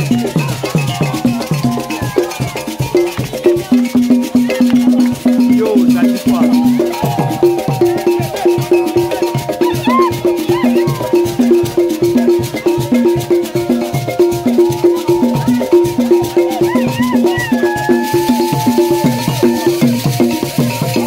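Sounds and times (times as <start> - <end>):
fast percussion rhythm: 0.0 - 21.0.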